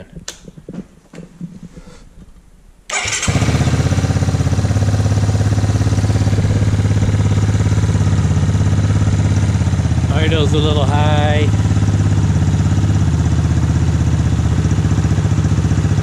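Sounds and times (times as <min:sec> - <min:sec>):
single-cylinder engine idling: 0:02.9 - 0:16.0.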